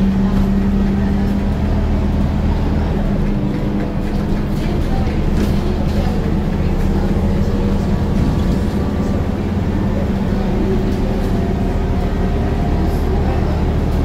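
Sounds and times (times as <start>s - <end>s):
bus engine revving: 0.0s - 14.0s.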